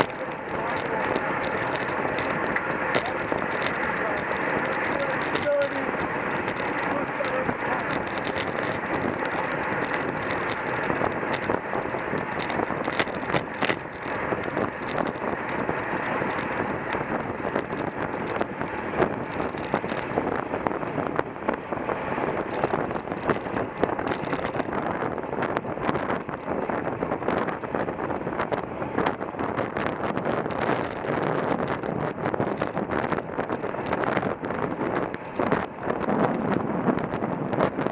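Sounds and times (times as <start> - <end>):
small clicks and knocks: 0.0 - 21.2, 22.4 - 37.8
wind rushing over microphone: 0.0 - 37.9.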